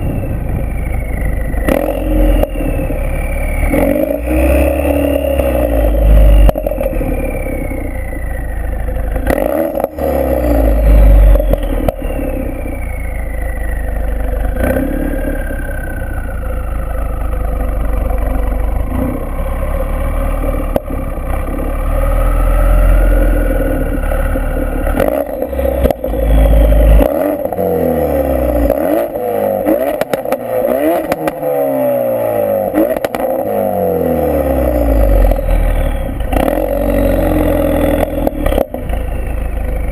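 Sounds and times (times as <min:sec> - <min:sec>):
car engine revving through exhaust: 0:00.0 - 0:39.9.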